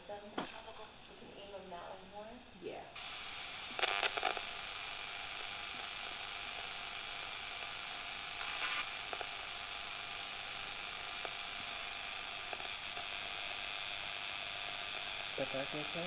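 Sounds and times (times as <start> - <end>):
radio static hiss: 0.0 - 16.0
crackle bursts: 3.0 - 16.0.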